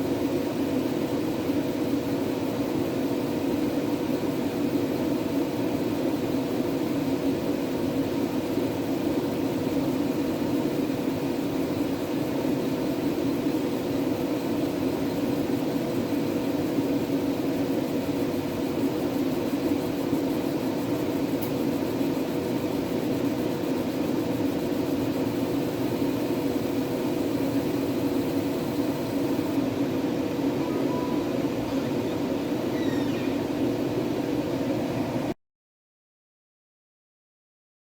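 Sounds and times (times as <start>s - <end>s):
faint steady whine: 0.0s - 35.4s
laser machine fan hum: 0.0s - 35.4s.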